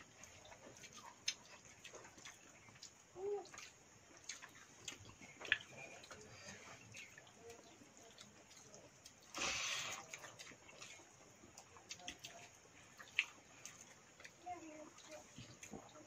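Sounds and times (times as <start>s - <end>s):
small clicks and mouth sounds: 0.1s - 16.0s.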